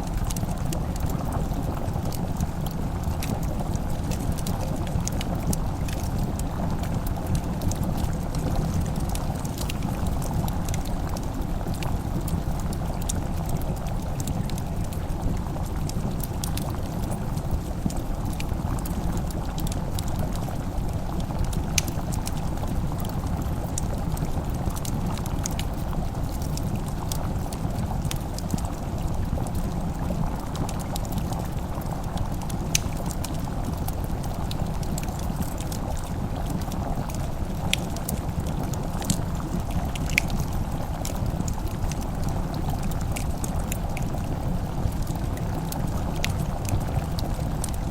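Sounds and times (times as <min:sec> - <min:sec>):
low bubbling rumble: 0:00.0 - 0:47.9
wood fire crackling and popping: 0:00.0 - 0:47.9.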